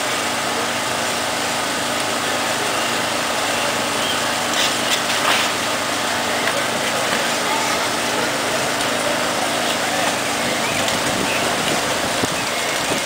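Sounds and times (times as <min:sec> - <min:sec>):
constant noisy hiss: 0:00.0 - 0:13.0
engine running: 0:00.0 - 0:13.0.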